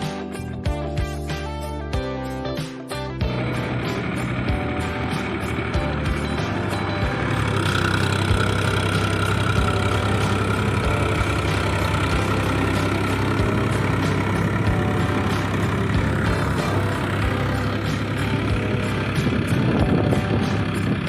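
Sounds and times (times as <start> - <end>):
tractor diesel engine running: 2.3 - 21.0.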